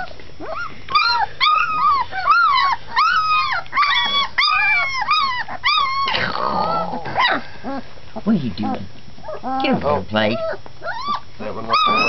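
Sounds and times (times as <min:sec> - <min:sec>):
puppies whining: 0:00.0 - 0:12.0.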